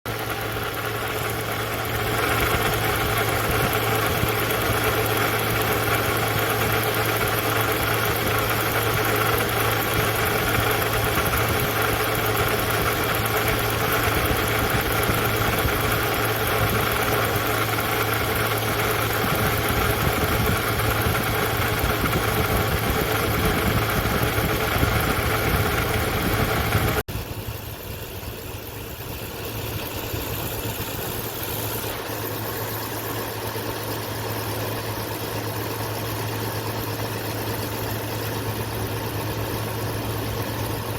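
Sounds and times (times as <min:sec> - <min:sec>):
car engine running: 0:00.1 - 0:40.9
water pump rattling: 0:00.1 - 0:40.9.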